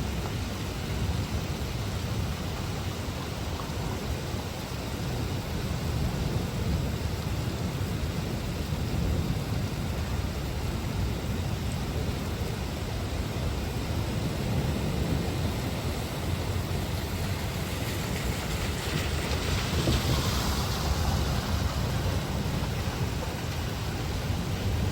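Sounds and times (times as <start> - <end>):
heavy rain pouring: 0.0 - 24.9.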